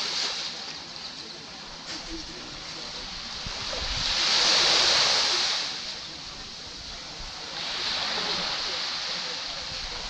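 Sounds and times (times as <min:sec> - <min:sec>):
small waves breaking on beach: 0:00.0 - 0:10.0.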